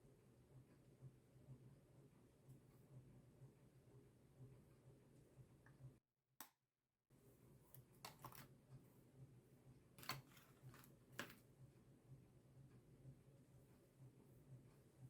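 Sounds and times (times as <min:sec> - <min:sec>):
low room hum: 0:00.0 - 0:06.0, 0:07.1 - 0:15.0.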